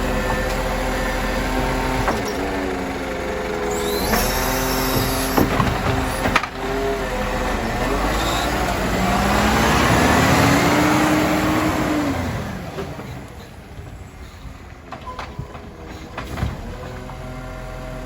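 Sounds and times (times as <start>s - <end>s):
garbage truck engine revving: 0.0s - 18.0s.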